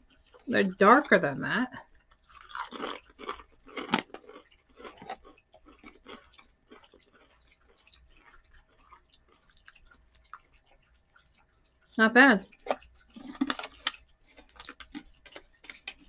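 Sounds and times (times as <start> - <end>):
person chewing: 0.0 - 1.2, 1.8 - 16.0
crisp crunching: 1.9 - 11.7, 12.5 - 16.0.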